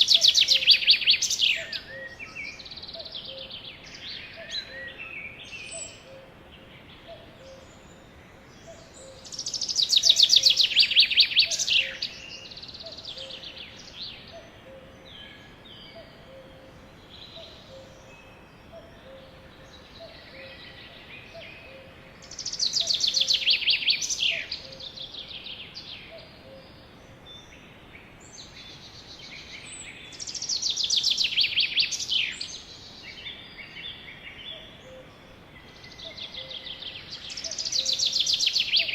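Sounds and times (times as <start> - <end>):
birds chirping softly: 0.0 - 38.9
sparrows singing trills: 0.0 - 38.9.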